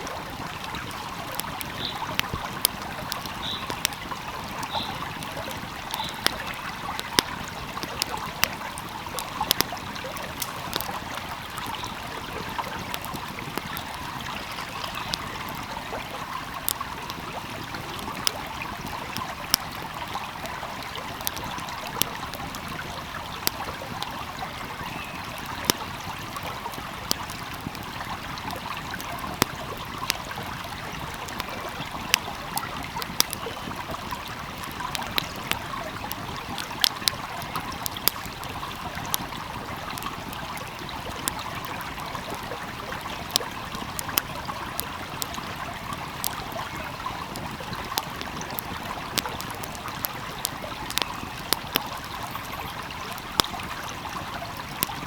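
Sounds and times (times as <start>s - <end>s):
stream flowing: 0.0s - 55.0s
wood fire crackling and popping: 0.0s - 55.0s.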